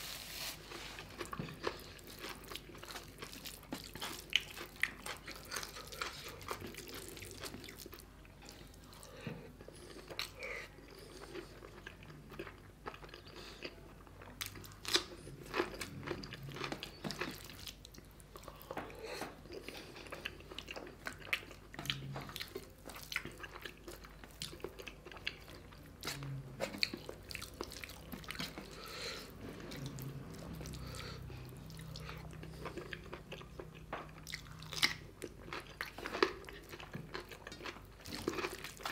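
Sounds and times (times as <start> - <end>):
man chewing food: 0.3 - 38.9.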